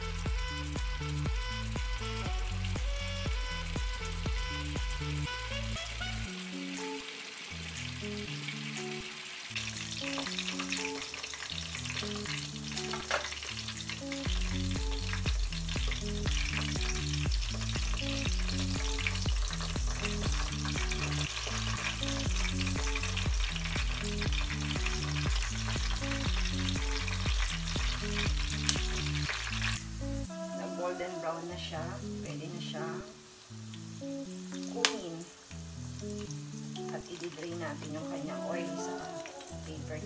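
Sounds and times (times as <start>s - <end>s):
pork frying in hot oil: 0.0s - 30.1s, 32.1s - 38.0s
background music with bass line: 0.0s - 32.8s.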